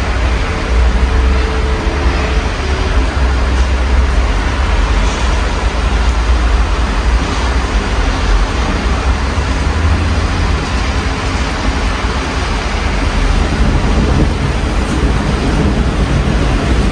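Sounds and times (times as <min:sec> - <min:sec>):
rumble of city traffic: 0:00.0 - 0:16.9
steady rain: 0:00.0 - 0:16.9.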